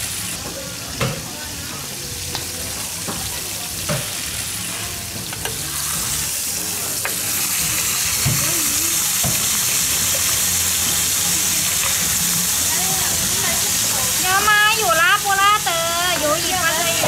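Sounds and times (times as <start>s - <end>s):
seafood sizzling in butter: 0.0s - 17.0s.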